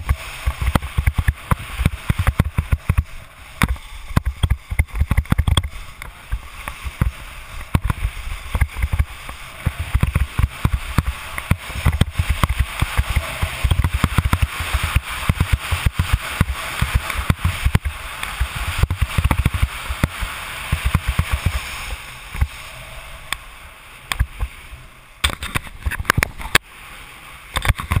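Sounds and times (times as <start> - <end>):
skis hissing on snow: 0.0 - 25.8
wind buffeting microphone: 0.0 - 26.6.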